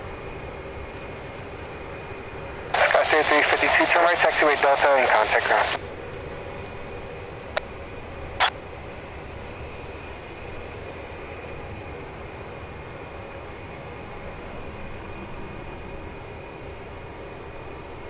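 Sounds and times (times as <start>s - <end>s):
jet engine hum and whine: 0.0s - 18.0s.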